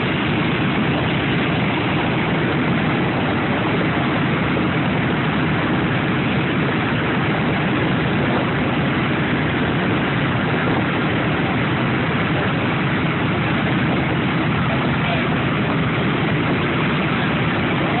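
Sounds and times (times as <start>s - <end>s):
radial aircraft engines idling: 0.0s - 18.0s.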